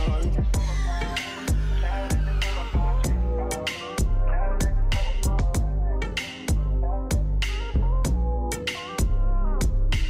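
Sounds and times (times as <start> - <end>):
deep sliding bass: 0.0 - 10.0
hip hop music: 0.0 - 10.0.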